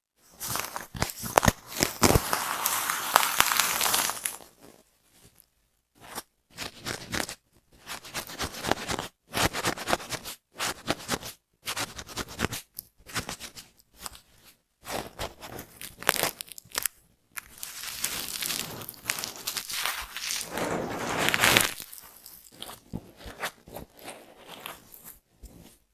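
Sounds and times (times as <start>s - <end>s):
crackling scratching of scalp: 0.3s - 25.9s.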